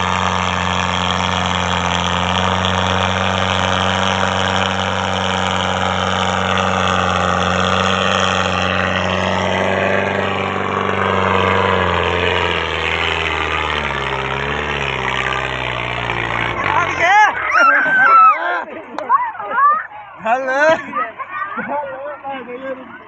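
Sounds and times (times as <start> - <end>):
tractor diesel engine labouring: 0.0 - 23.0.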